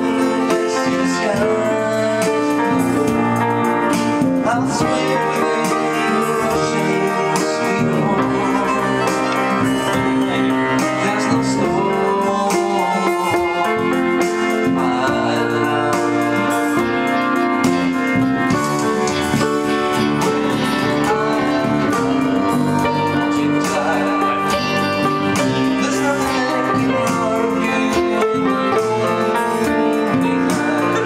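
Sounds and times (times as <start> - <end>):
live band playing: 0.0 - 31.0
man singing into microphone: 0.0 - 31.0.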